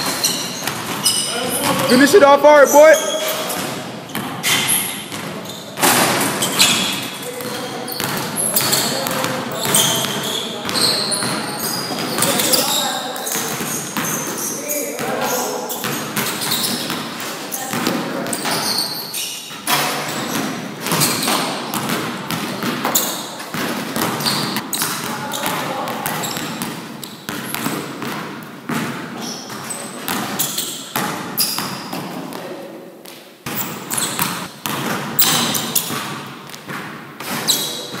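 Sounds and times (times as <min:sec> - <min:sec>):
basketball bouncing on gym floor: 0:00.0 - 0:32.4, 0:33.4 - 0:38.0.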